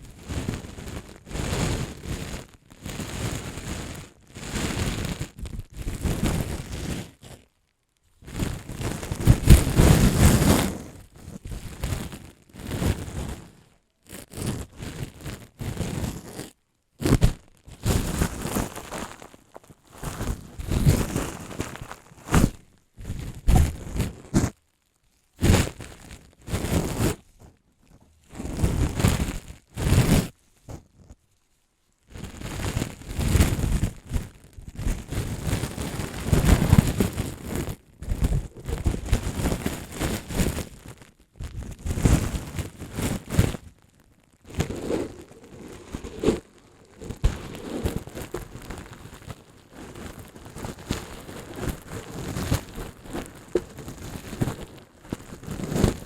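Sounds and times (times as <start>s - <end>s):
crinkly object crinkling: 0.2s - 56.0s.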